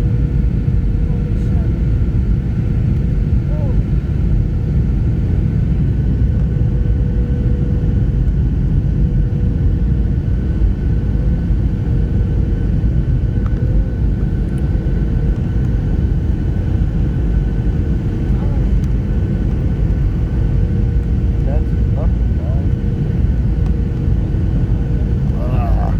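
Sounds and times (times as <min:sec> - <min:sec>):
airliner cabin rumble: 0:00.0 - 0:25.9.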